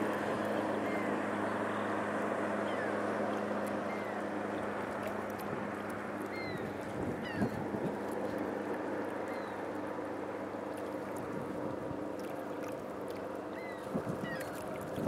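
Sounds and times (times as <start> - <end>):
low hum: 0.0 - 15.0
river water gurgling and lapping: 0.0 - 15.0.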